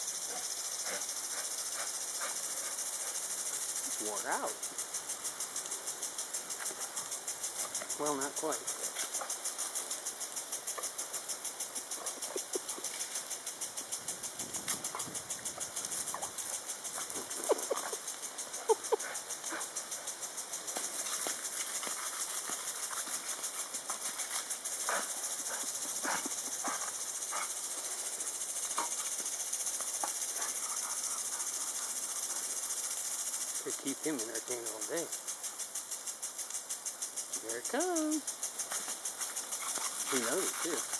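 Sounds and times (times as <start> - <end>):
sprinkler water jet hissing: 0.0 - 40.9.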